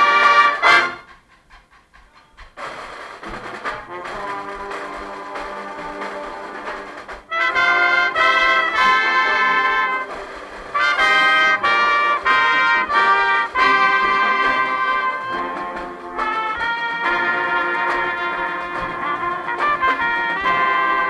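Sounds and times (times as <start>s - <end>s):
trumpet playing held notes: 0.0s - 1.1s, 3.2s - 21.0s
marching band brass playing: 0.0s - 1.2s, 2.6s - 21.0s.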